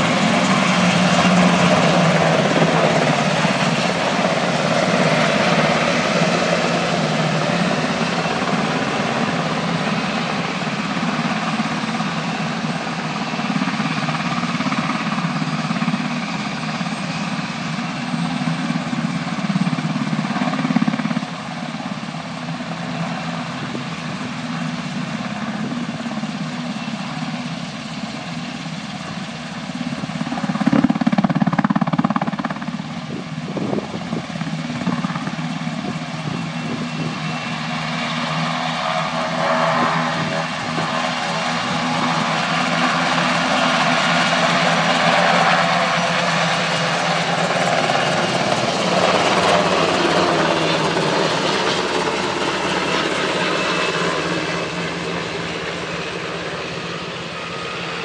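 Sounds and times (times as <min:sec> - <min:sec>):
helicopter rotors and engines: 0:00.0 - 0:58.0.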